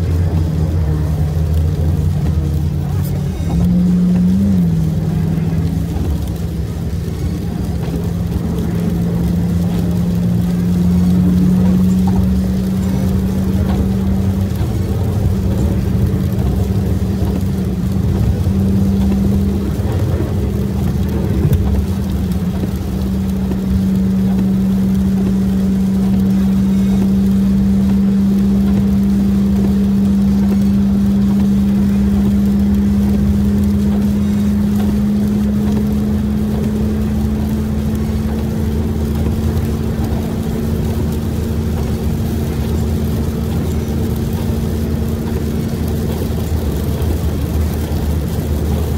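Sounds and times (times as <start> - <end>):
engine and road drone: 0.0 - 48.9.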